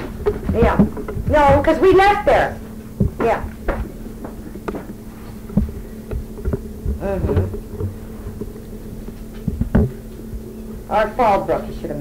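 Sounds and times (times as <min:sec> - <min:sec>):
buzzing electrical hum: 0:00.0 - 0:12.0.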